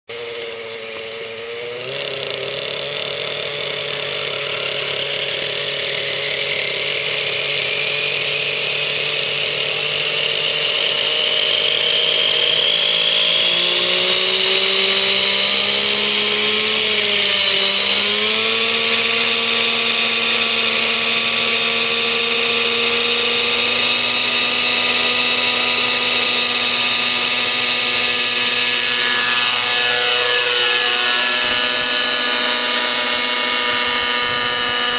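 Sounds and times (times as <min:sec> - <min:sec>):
model helicopter engine whining: 0:00.1 - 0:34.9
rotor whirring: 0:00.1 - 0:34.9.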